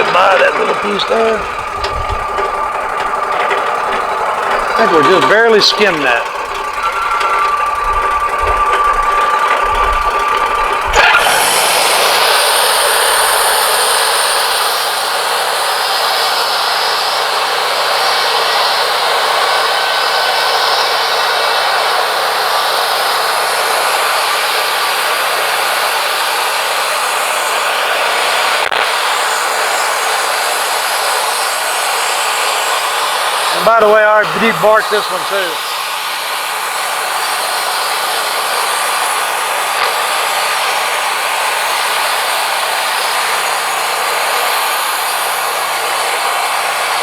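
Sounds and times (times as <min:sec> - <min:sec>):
band saw cutting log: 0:00.0 - 0:47.0
sawmill motor running: 0:00.0 - 0:47.0.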